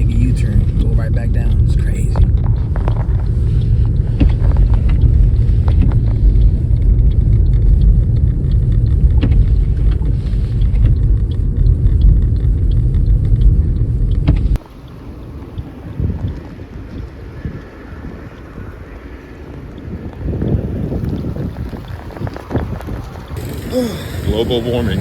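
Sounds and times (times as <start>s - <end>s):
car road and engine rumble: 0.0s - 25.0s
faint clicks: 1.7s - 25.0s.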